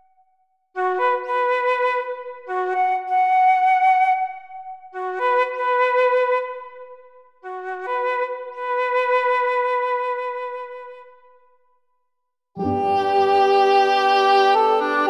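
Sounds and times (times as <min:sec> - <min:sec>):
flute playing slow melody: 0:00.8 - 0:11.2, 0:12.6 - 0:15.0.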